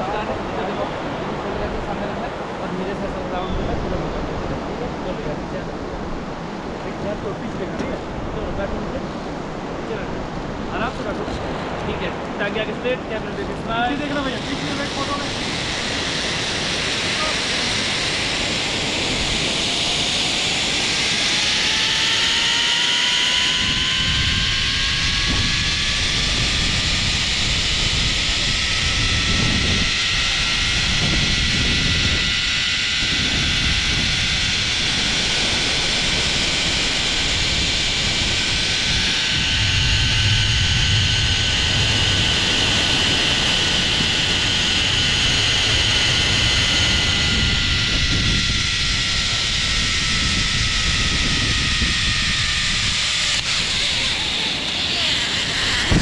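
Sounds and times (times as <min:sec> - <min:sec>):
engine whine speeding up: 0:00.0 - 0:56.0
wind buffeting microphone: 0:00.0 - 0:56.0.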